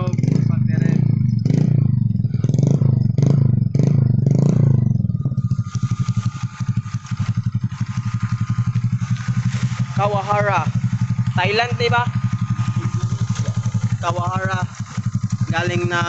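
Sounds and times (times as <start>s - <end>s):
scooter engine revving and idling: 0.0s - 16.0s.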